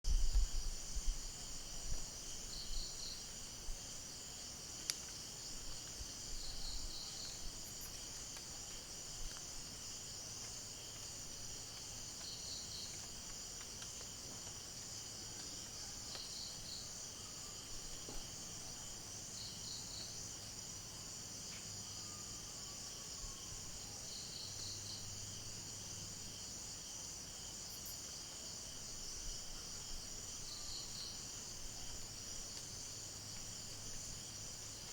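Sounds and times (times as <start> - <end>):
chorus of insects: 0.1 - 34.9.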